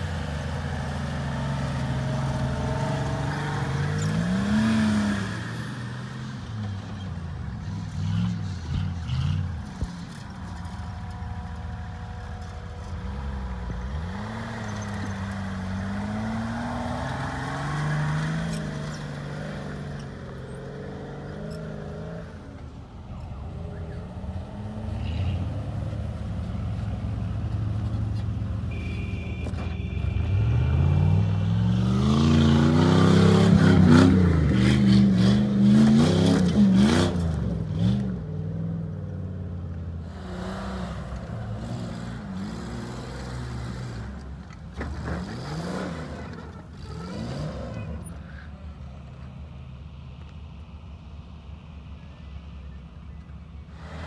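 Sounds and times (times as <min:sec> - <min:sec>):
off-road vehicle engines revving: 0:00.0 - 0:54.0.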